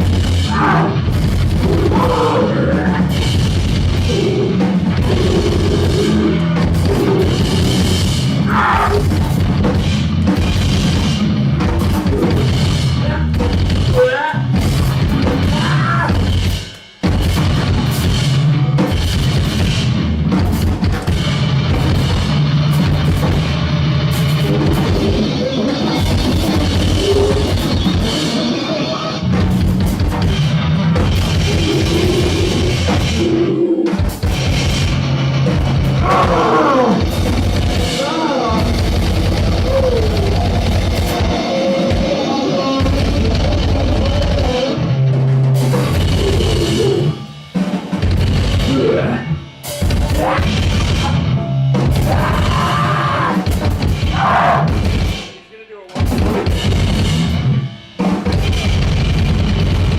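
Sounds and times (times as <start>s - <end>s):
distorted noise: 0.0s - 59.9s
fast drumming: 0.0s - 59.9s.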